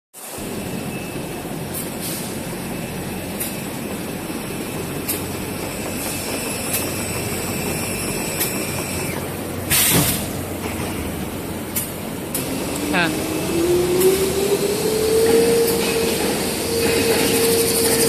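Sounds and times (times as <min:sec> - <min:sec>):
production line machine drone: 0:00.2 - 0:18.0.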